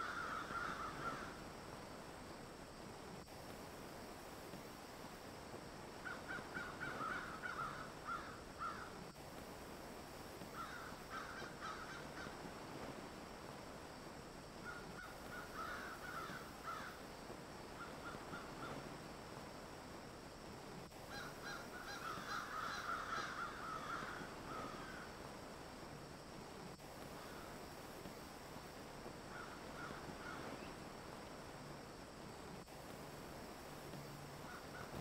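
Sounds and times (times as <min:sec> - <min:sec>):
faint hiss: 0:00.0 - 0:35.0.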